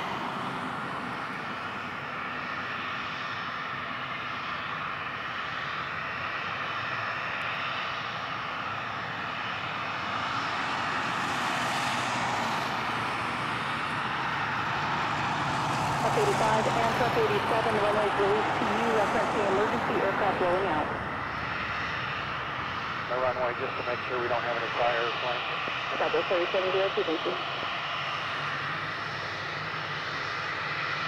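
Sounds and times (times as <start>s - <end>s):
jet engines rushing: 0.0s - 31.0s.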